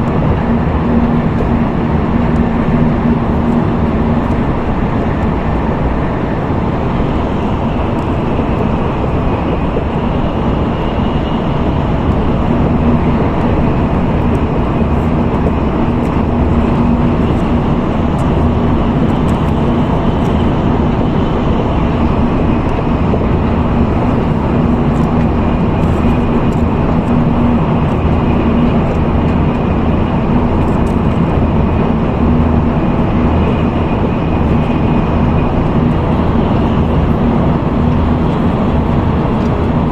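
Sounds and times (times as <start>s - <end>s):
faint high whine: 0.0s - 39.9s
low hum: 0.0s - 39.9s
train running noise: 0.0s - 39.9s.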